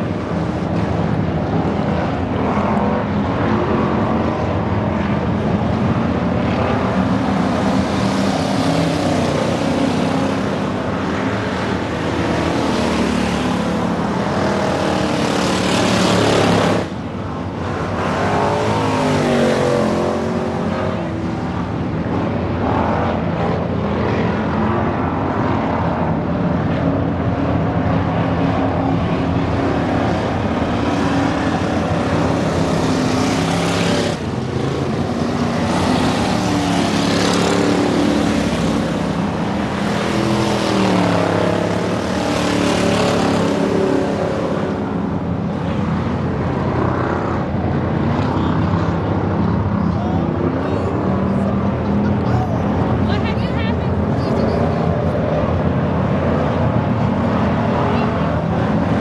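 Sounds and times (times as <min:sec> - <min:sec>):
race car engines: 0:00.0 - 0:59.0.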